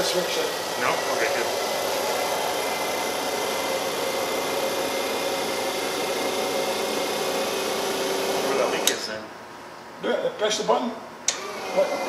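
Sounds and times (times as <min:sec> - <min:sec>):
hydraulic pump whirring: 0:00.0 - 0:09.2, 0:11.3 - 0:12.0.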